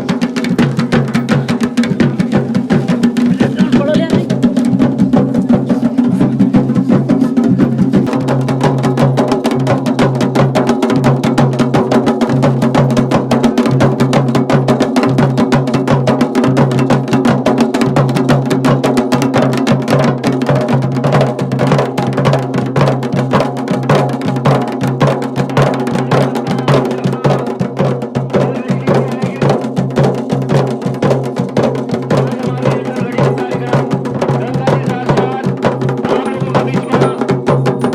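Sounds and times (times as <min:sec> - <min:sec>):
fast dense drumming: 0:00.0 - 0:37.9.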